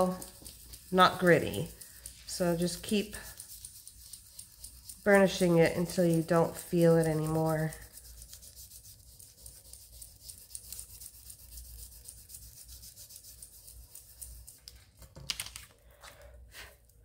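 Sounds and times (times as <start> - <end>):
card scratching on clay: 0.0 - 14.9.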